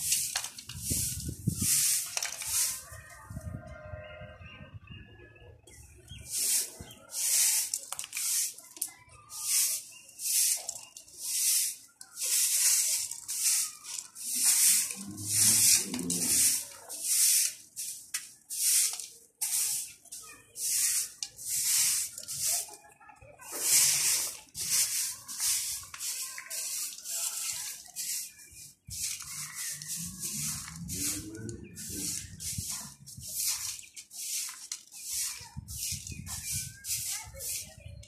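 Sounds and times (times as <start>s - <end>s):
broom sweeping stone tiles: 0.0s - 3.4s, 6.1s - 38.0s.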